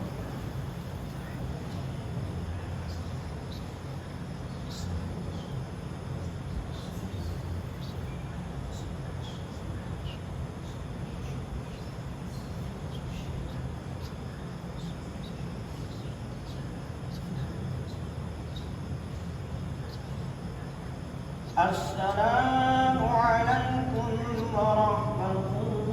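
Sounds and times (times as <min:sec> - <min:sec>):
crickets chirping: 0:00.0 - 0:25.9
steady low hum: 0:00.0 - 0:25.9.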